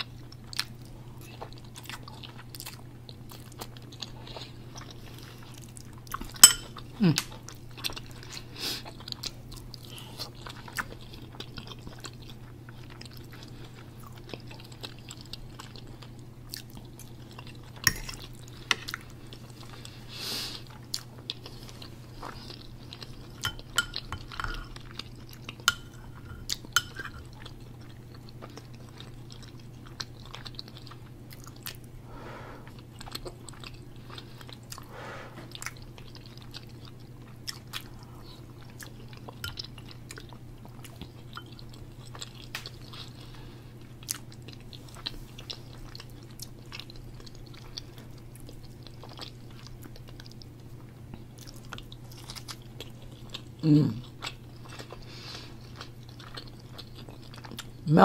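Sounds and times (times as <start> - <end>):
person chewing soft food: 0.0 - 57.9
steady low hum: 0.0 - 58.0.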